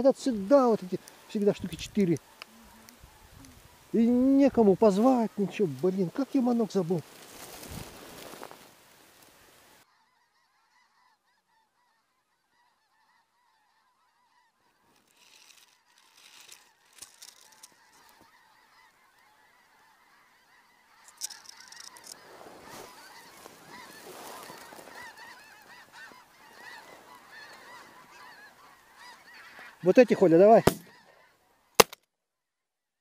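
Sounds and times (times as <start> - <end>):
geese honking overhead: 0.0 - 31.8.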